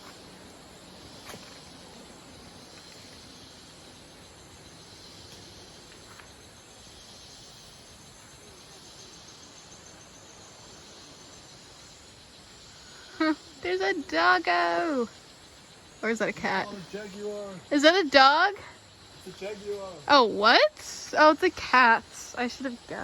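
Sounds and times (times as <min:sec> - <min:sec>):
faint background hiss: 0:00.0 - 0:23.0
insects chirping: 0:00.0 - 0:23.0.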